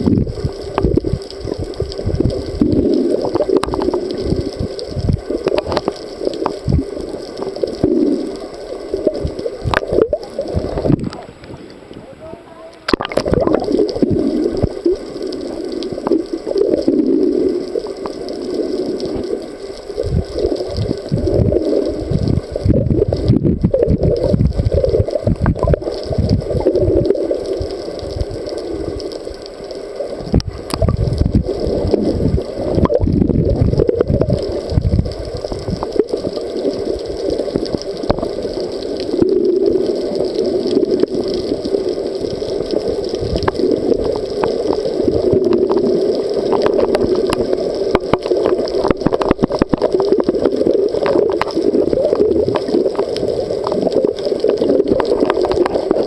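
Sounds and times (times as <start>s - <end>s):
underwater gurgling and sloshing: 0.0s - 56.0s.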